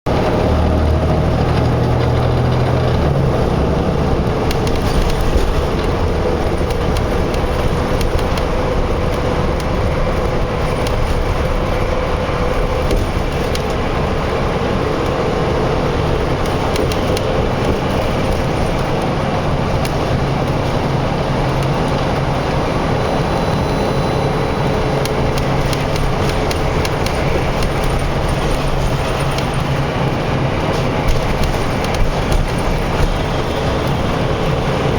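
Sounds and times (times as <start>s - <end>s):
construction machinery engine drone: 0.1s - 34.9s
road traffic: 0.1s - 34.9s.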